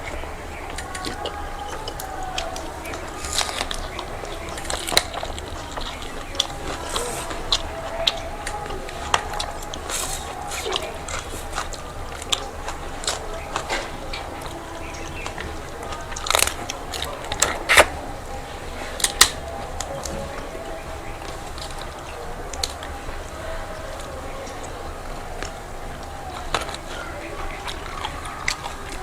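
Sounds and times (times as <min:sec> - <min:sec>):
people chewing and biting: 0:00.0 - 0:29.0.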